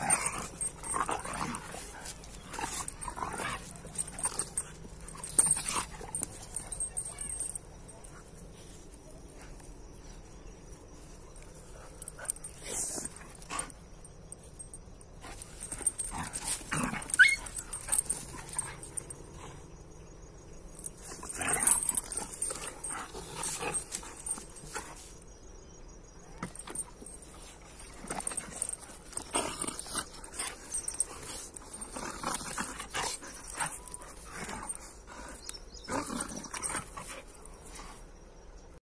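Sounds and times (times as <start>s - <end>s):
dogs wrestling and mouthing: 0.0s - 20.0s, 20.6s - 25.2s, 26.4s - 38.1s.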